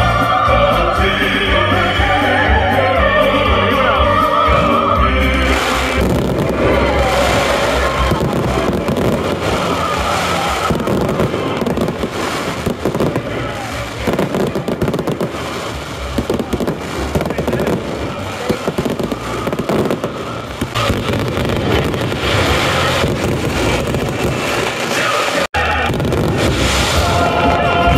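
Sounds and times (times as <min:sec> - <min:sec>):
crowd voices: 0:00.0 - 0:27.9
fireworks bangs and crackling: 0:00.0 - 0:27.9.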